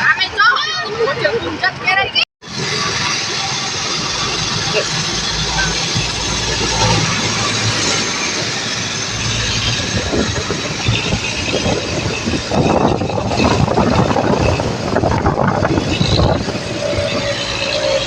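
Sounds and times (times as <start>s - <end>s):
rough wind buffeting: 0.0s - 18.0s
traffic engine and road rush: 0.0s - 18.0s.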